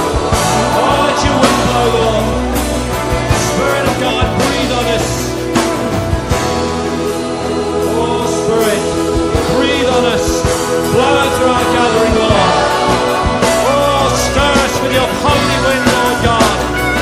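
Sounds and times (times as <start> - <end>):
rock band playing: 0.0 - 17.0
voices singing: 0.0 - 17.0.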